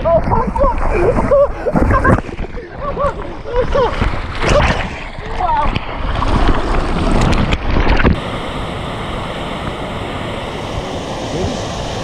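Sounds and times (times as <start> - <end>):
water rushing: 0.0 - 12.0
water splashing: 0.0 - 12.0.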